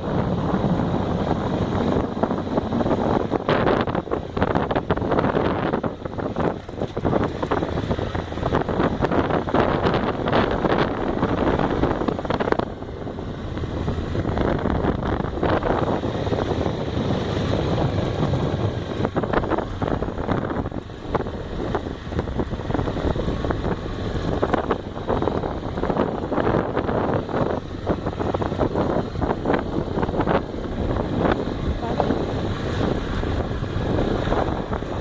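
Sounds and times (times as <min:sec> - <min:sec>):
motorcycle engine: 0:00.0 - 0:35.0
road noise: 0:00.0 - 0:35.0
wind buffeting microphone: 0:00.0 - 0:35.0.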